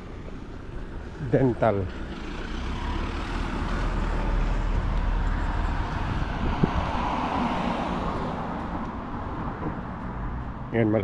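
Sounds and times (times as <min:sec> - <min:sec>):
vehicle passing: 0:00.0 - 0:10.8
low traffic rumble: 0:00.0 - 0:11.0.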